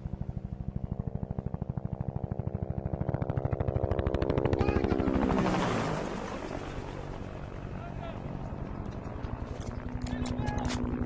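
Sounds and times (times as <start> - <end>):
helicopter rotor chopping: 0.0 - 11.0.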